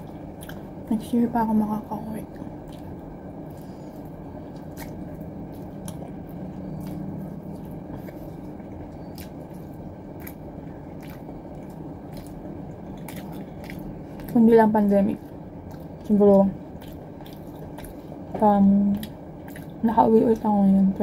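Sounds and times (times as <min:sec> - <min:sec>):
person chewing food: 0:00.0 - 0:00.9, 0:02.3 - 0:20.4.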